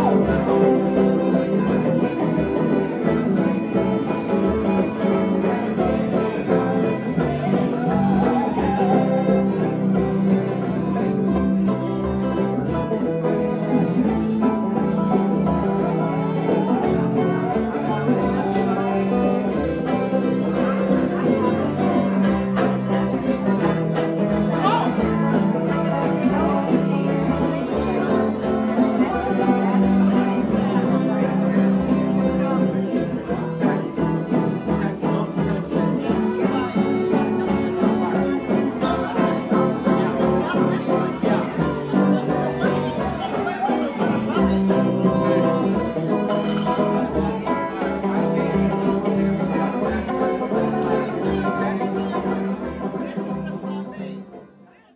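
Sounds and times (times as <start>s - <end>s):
acoustic bluegrass jam: 0.0s - 54.9s.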